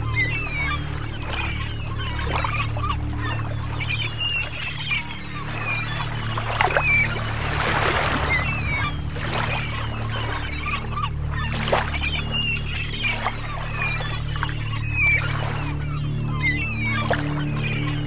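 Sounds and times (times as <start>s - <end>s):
gulls squawking: 0.0s - 18.0s
steady low rumble: 0.0s - 18.0s.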